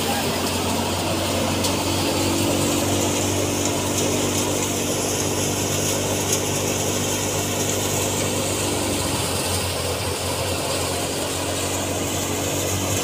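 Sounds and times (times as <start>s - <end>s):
thresher whirring and rattling: 0.0s - 13.0s
tractor engine running: 0.0s - 13.0s.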